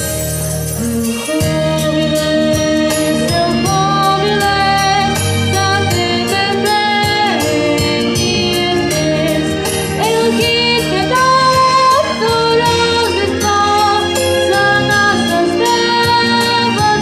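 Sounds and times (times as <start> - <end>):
instrumental accompaniment with beat: 0.0 - 17.0
woman singing folk song: 0.9 - 17.0.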